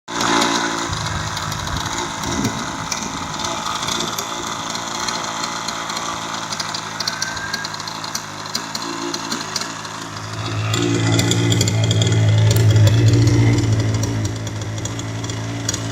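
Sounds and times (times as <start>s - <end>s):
model glow engine running: 0.1s - 15.9s.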